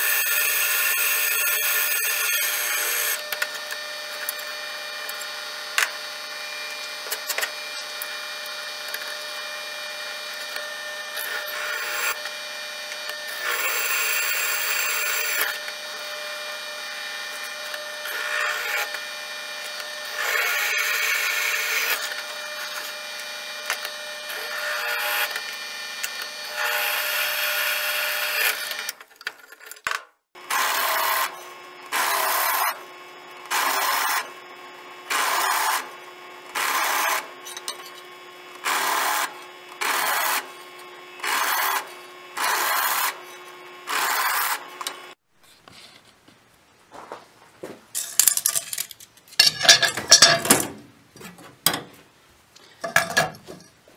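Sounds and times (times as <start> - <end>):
drill bit cutting steel: 0.0 - 29.0, 30.4 - 45.2
drill press running: 0.0 - 29.0, 30.4 - 45.2.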